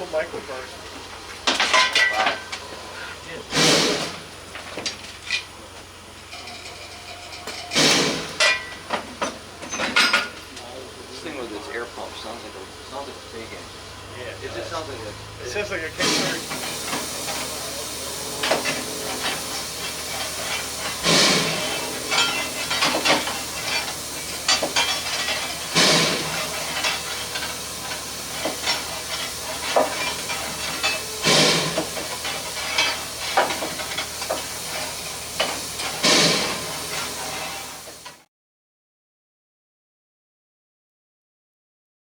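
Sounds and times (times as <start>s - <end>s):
steam hissing: 2.4s - 38.2s
steam locomotive air pump chuffing: 2.5s - 38.2s.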